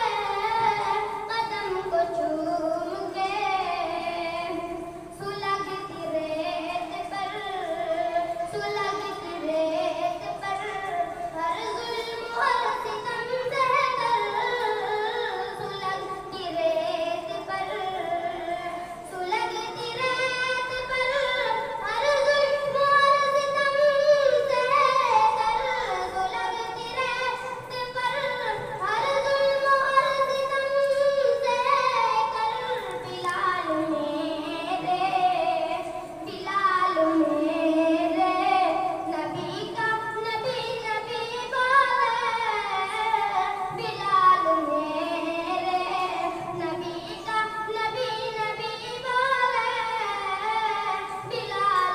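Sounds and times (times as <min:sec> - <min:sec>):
high voice singing devotional poem: 0:00.0 - 0:51.9.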